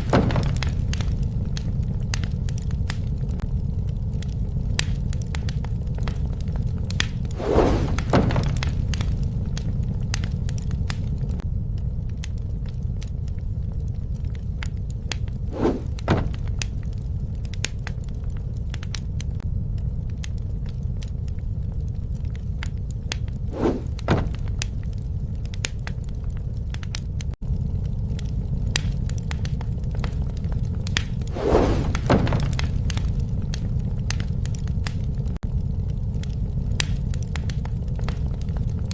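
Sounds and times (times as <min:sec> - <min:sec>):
sharp snaps and pops: 0:00.0 - 0:38.9
wood fire crackling: 0:00.0 - 0:38.9.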